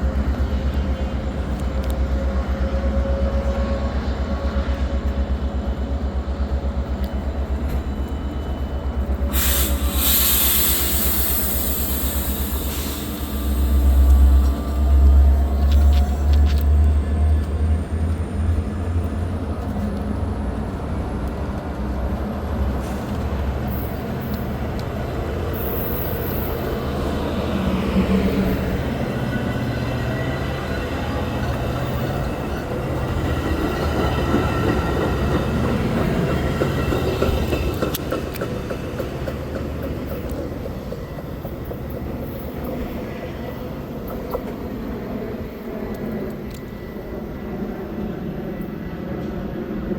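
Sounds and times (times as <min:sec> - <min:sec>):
locomotive engine rumble: 0:00.0 - 0:42.8
train wheels on rails: 0:00.0 - 0:49.9.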